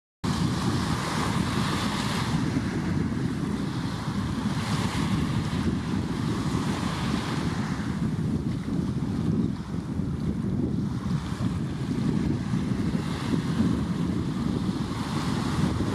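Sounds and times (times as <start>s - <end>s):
surf washing on shore: 0.2s - 15.9s
wind buffeting microphone: 0.2s - 15.9s.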